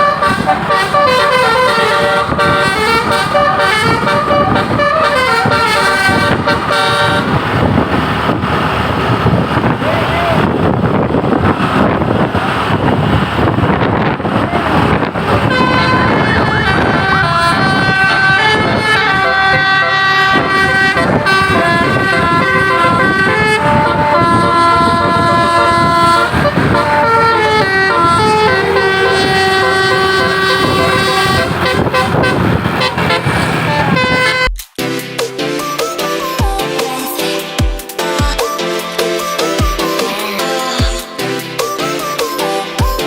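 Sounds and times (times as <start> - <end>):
musical bus horns playing: 0.0 - 43.0
rush of vehicle noise: 0.0 - 43.0.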